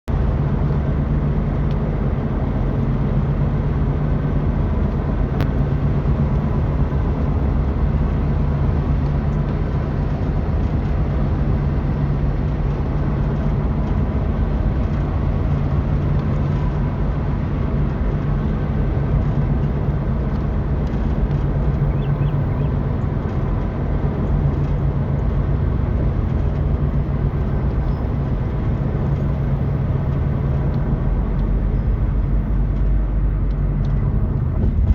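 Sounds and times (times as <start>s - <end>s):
utility vehicle engine drone: 0.1s - 34.9s.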